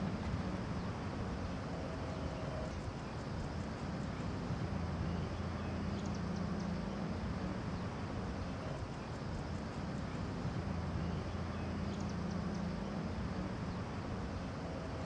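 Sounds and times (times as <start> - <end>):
low hum and rumble: 0.0 - 15.0.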